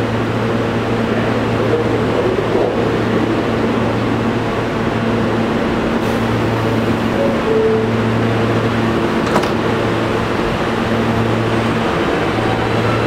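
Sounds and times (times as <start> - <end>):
subway car air-conditioning hum: 0.0 - 13.0.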